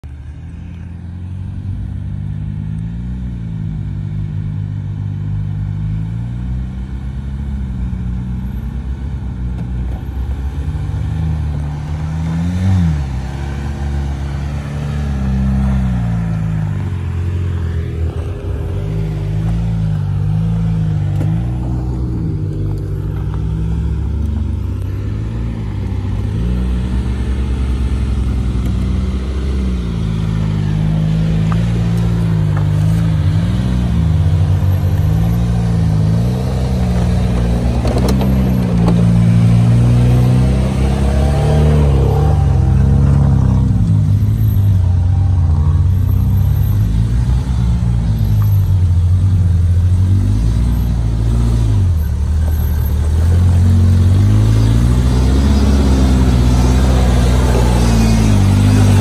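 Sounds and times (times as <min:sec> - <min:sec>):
off-road vehicle engine revving: 0:00.6 - 0:59.0.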